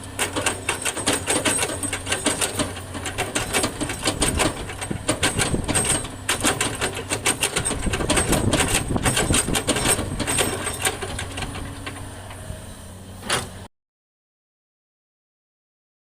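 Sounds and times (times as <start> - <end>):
truck engine hum: 0.0 - 13.7.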